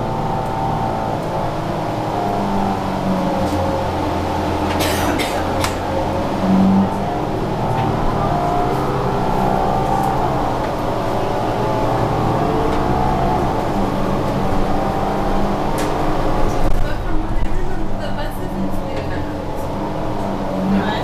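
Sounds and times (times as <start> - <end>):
bus engine drone: 0.0 - 21.0
engine whine: 0.0 - 21.0.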